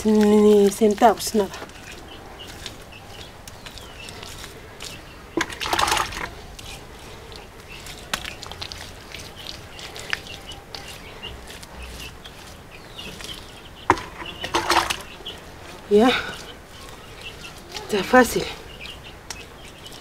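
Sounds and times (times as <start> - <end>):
hands smearing wet mud: 0.0 - 20.0.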